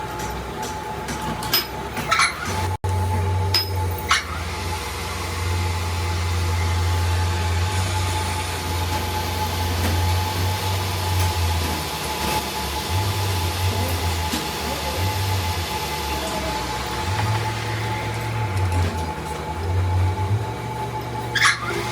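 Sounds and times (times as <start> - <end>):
machine motor humming: 0.0 - 21.9.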